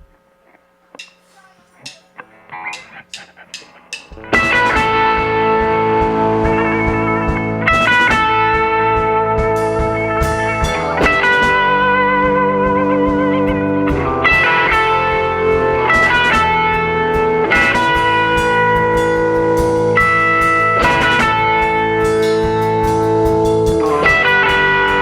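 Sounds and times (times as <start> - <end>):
electric guitar chords: 1.0 - 25.0.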